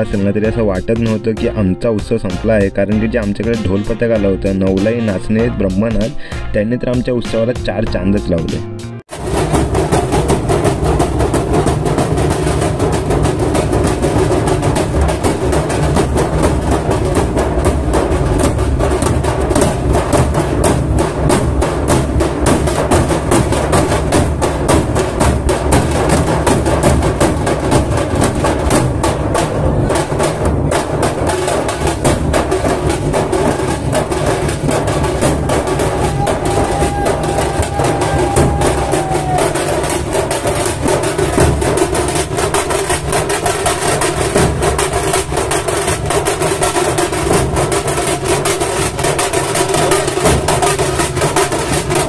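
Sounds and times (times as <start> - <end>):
barrel drums pounding: 0.0 - 6.3, 6.9 - 52.0
sharp rapid drum strokes: 0.0 - 52.0.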